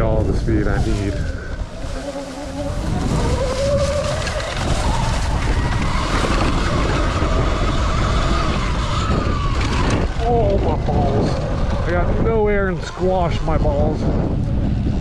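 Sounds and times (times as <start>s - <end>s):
wind rumble on microphone: 0.0s - 15.0s
electric motorbike motor whining: 0.8s - 15.0s.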